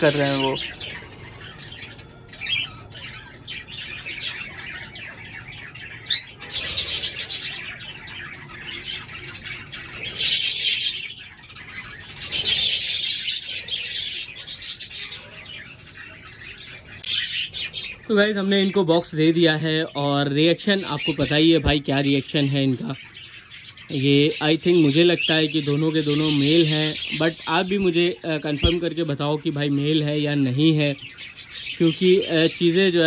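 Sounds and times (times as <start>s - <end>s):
cockatiels squawking and chirping: 0.0s - 33.0s.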